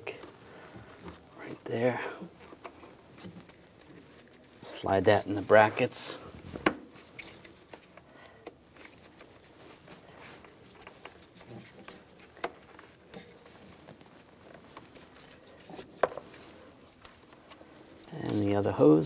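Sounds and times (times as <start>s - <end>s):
faint rustling of gloved hands: 0.0s - 19.0s.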